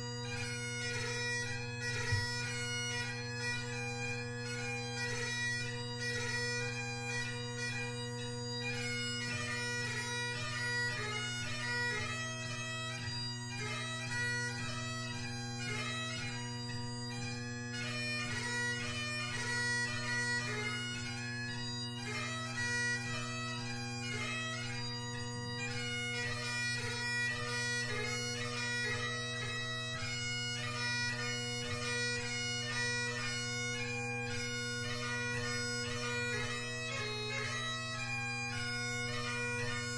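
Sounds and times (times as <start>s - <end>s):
bagpipe chanter melody: 0.0s - 39.9s
bagpipe drone: 0.0s - 39.9s.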